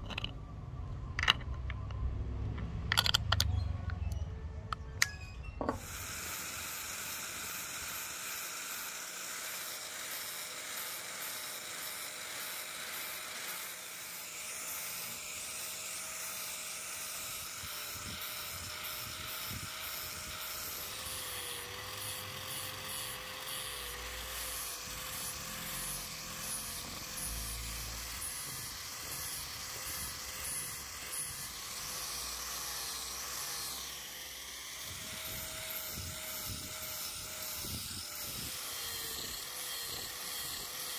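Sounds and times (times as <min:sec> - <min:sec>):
power tool grinding whine: 0:00.0 - 0:00.4, 0:05.6 - 0:40.9.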